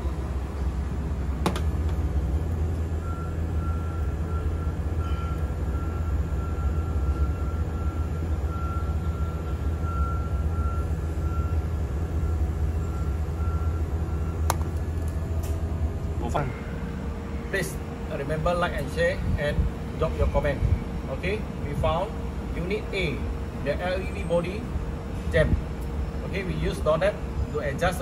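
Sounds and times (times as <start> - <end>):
compressor low hum: 0.0 - 28.0.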